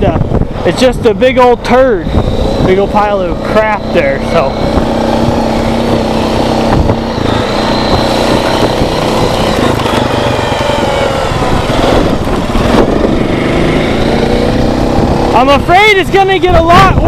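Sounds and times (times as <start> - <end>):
atv engine running: 0.0 - 17.0
wind buffeting microphone: 0.0 - 17.0.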